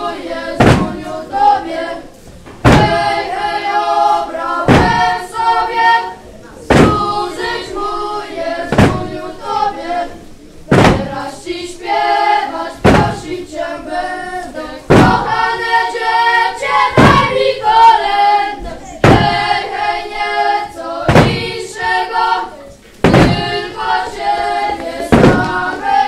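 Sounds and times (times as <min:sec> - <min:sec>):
heavy beat thumps: 0:00.0 - 0:01.6, 0:02.4 - 0:13.6, 0:14.8 - 0:22.1, 0:23.0 - 0:26.0
children singing a carol: 0:00.0 - 0:26.0.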